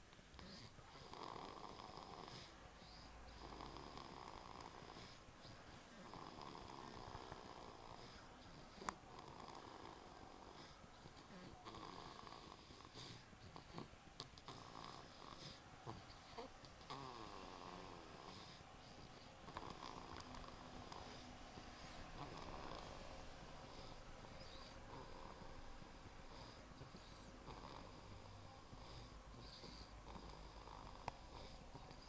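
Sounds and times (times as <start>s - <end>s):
baby snoring faintly: 0.3s - 32.0s.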